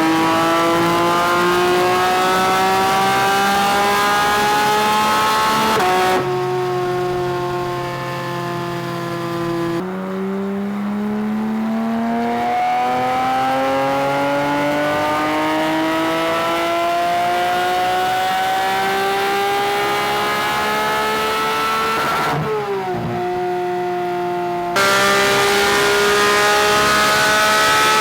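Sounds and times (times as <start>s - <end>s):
sports car engine revving: 0.0s - 28.0s.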